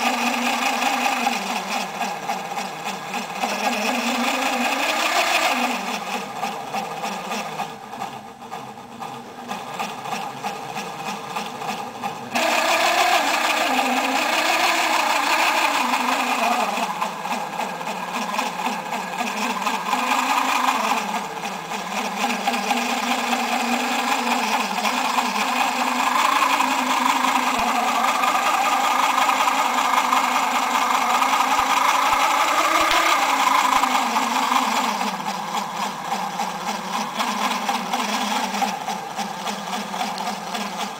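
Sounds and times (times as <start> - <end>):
electric gear motor whirring: 0.0 - 40.9.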